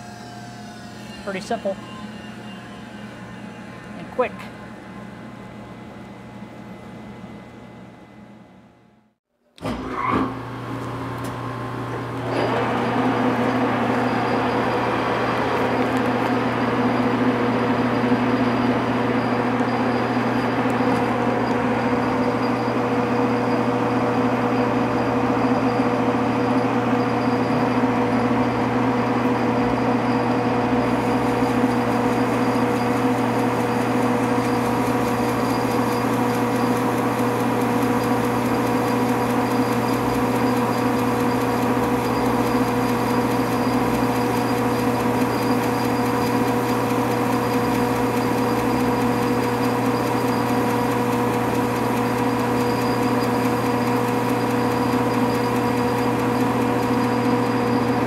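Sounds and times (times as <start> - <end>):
metal lathe humming: 0.0 - 5.0, 12.1 - 58.0.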